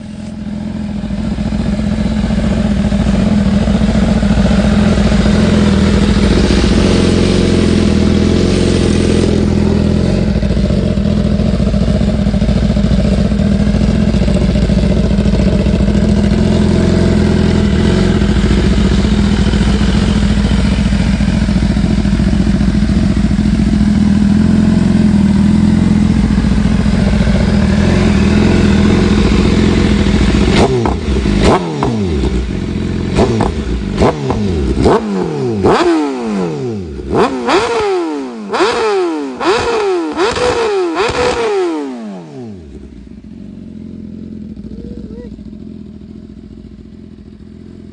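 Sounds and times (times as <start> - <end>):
motorcycle engine running steadily: 0.0 - 47.9.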